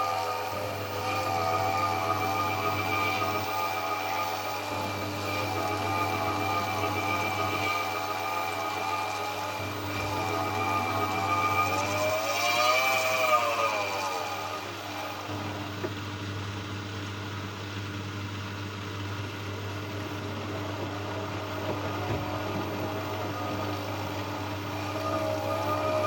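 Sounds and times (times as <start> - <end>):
washing machine motor whine: 0.0 - 26.0.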